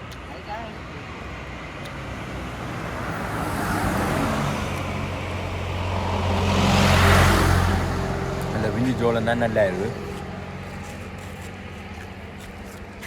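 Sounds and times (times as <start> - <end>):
vehicles passing: 0.0 - 13.0.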